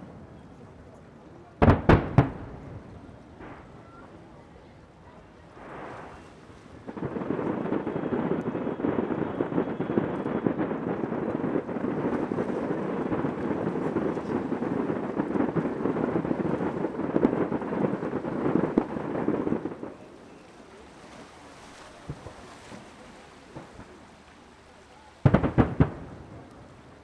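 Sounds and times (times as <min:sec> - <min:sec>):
faint hiss: 0:00.0 - 0:27.0
fireworks barrage: 0:01.6 - 0:04.4, 0:05.4 - 0:21.1, 0:21.9 - 0:27.0.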